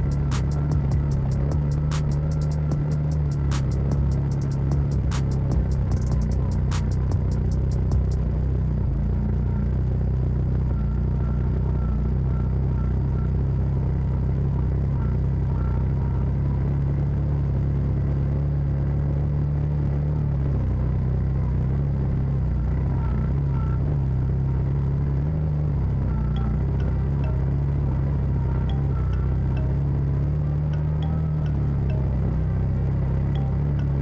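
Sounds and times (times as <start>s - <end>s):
utility vehicle engine driving: 0.0s - 34.0s.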